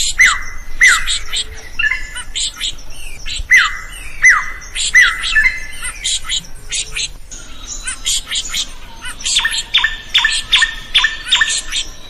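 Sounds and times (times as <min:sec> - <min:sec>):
bird whistling: 0:00.0 - 0:12.0.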